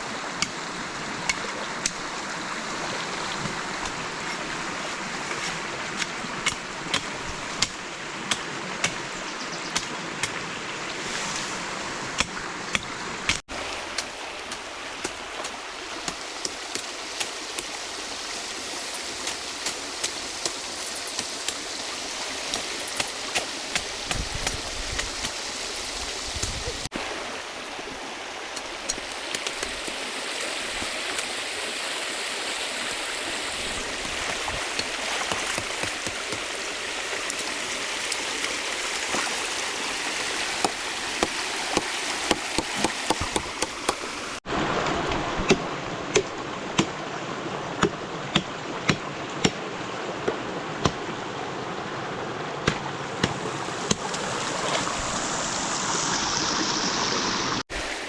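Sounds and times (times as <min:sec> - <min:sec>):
river flowing: 0:10.0 - 0:58.0.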